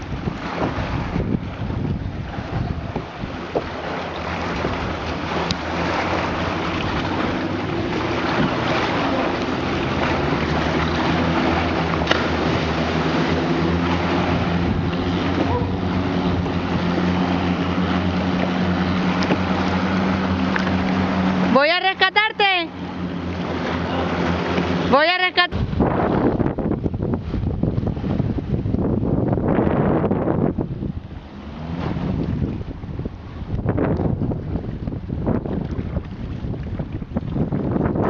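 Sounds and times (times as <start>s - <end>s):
wind noise on microphone: 0.0s - 21.7s, 23.3s - 38.0s
boat engine running: 0.0s - 38.0s.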